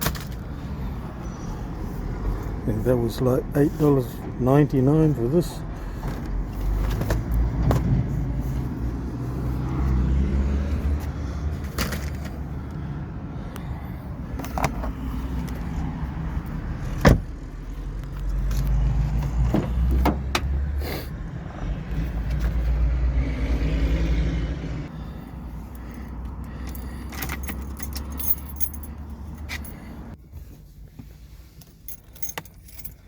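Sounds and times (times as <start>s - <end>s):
low rumble inside vehicle cab: 0.0s - 9.8s, 10.7s - 23.3s, 24.5s - 33.0s.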